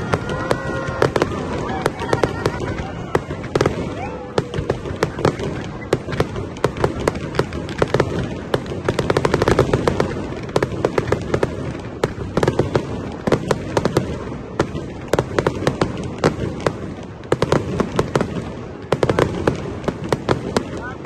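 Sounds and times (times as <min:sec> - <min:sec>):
fireworks bangs and crackling pops: 0:00.0 - 0:21.0.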